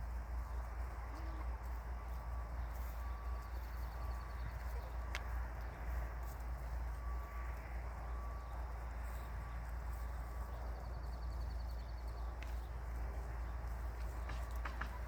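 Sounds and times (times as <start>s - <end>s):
steady low hum: 0.0s - 15.0s
chickens pecking in a coop: 0.1s - 15.0s.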